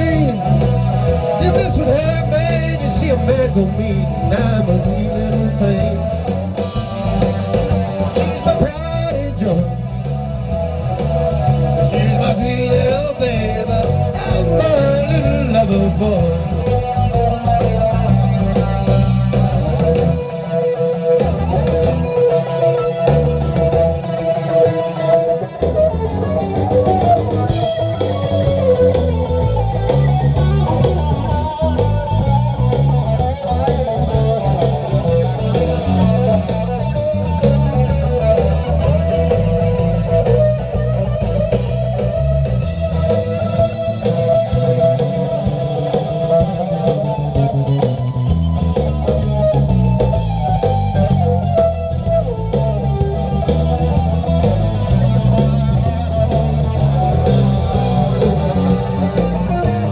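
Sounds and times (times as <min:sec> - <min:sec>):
electric guitar through amplifier: 0:00.0 - 0:59.9
low bass notes: 0:00.0 - 0:59.9.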